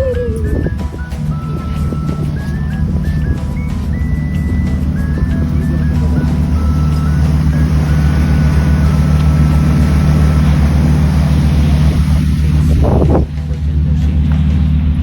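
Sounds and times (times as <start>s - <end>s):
faint simple melody: 0.0s - 13.2s
boat engine droning: 0.0s - 15.0s.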